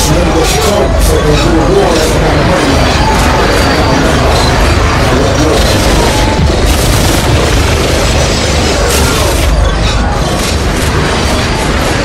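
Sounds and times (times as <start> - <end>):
rumble of explosions: 0.0 - 12.0
sharp gunshots: 1.8 - 12.0.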